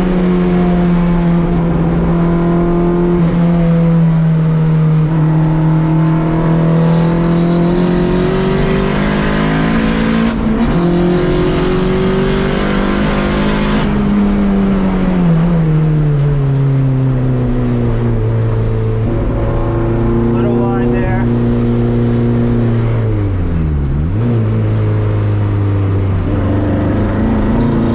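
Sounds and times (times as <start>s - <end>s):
car engine revving under load: 0.0s - 27.9s.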